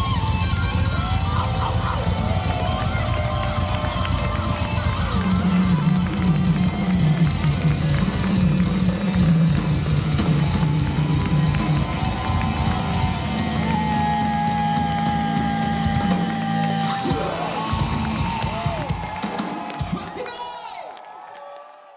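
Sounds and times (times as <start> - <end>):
heavy metal band playing: 0.0 - 20.3
drums: 0.0 - 20.9.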